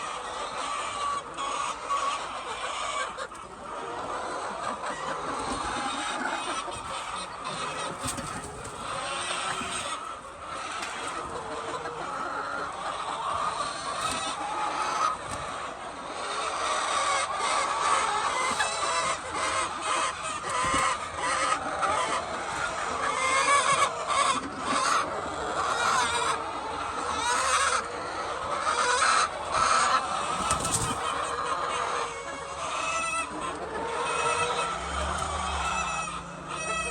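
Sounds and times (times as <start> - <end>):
hens clucking and calling: 0.0 - 36.9.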